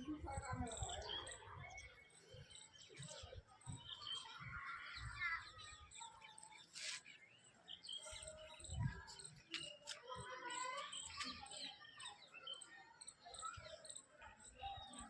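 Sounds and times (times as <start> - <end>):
faint voices: 0.0 - 15.0.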